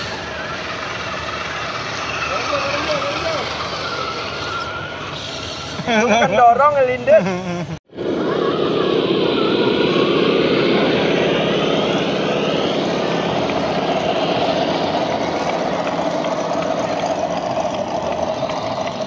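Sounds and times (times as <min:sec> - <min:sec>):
electric motor and gear whine: 0:00.0 - 0:05.8, 0:07.9 - 0:19.0.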